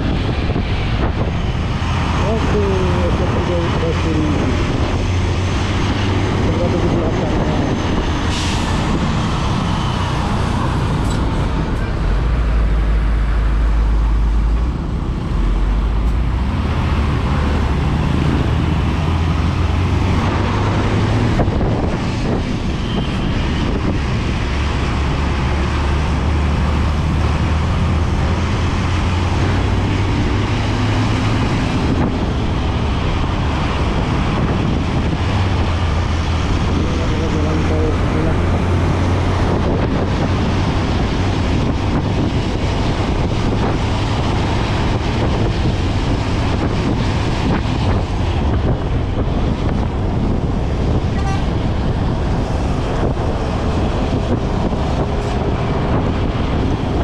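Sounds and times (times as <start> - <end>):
bus engine rumble: 0.0 - 57.0
road noise: 0.0 - 57.0.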